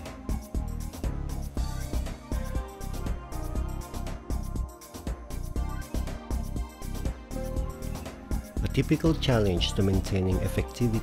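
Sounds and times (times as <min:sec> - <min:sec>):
music with heavy bass beat: 0:00.0 - 0:08.9.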